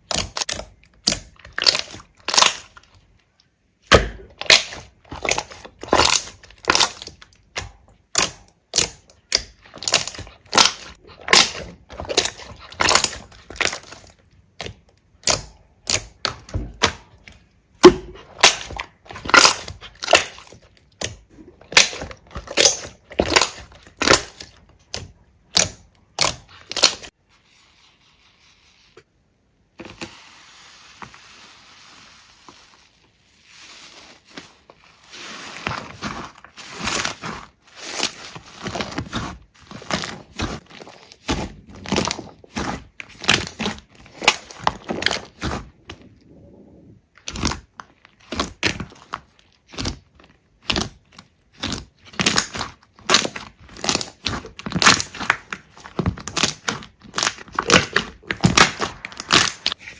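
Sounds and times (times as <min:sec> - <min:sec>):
slime squishing and popping: 0:00.0 - 0:03.0, 0:03.8 - 0:27.1, 0:35.7 - 0:46.0, 0:47.1 - 0:59.8.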